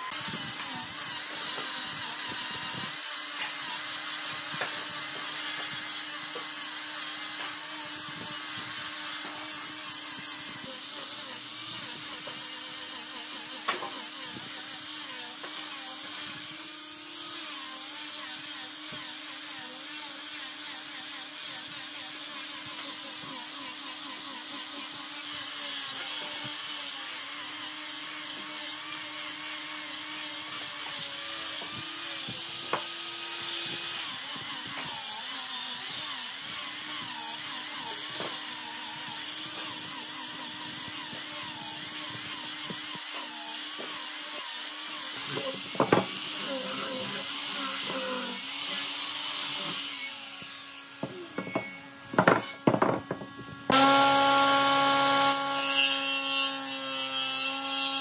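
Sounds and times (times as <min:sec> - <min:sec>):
angle grinder motor hum: 0:00.0 - 0:58.0
sanding disc rasping on wood: 0:00.0 - 0:58.0.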